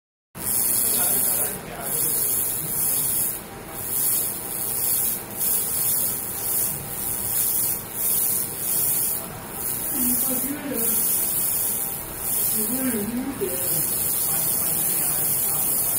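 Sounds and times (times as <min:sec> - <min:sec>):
laser cleaning machine hissing: 0:00.4 - 0:15.9.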